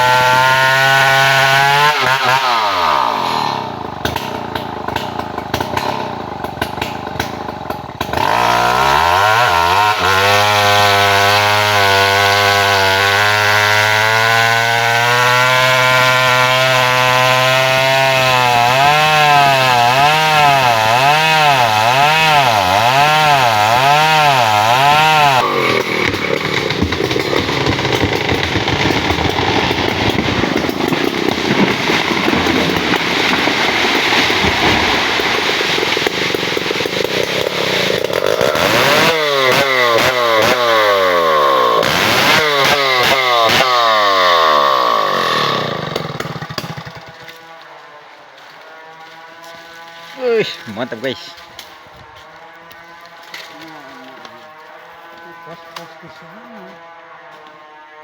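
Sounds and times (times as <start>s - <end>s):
chainsaw engine revving: 0.0s - 58.0s.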